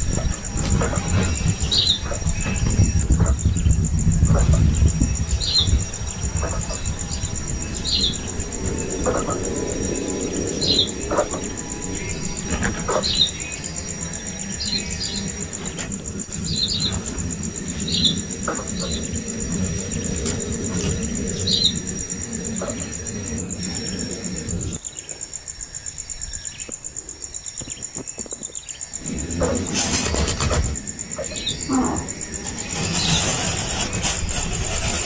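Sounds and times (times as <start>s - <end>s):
high insect trill: 0.0s - 35.0s.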